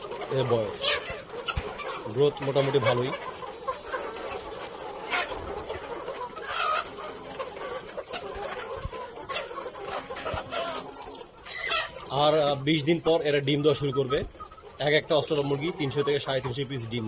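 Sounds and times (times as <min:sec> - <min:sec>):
chickens clucking: 0:00.0 - 0:17.0
loud chicken calls: 0:00.0 - 0:17.0.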